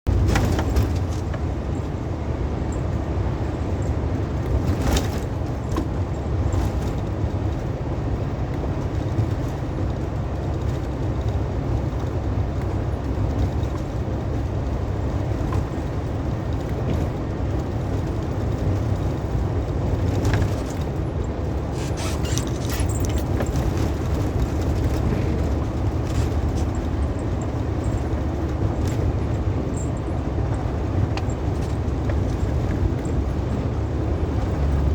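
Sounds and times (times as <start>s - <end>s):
truck engine and road drone: 0.1s - 34.9s.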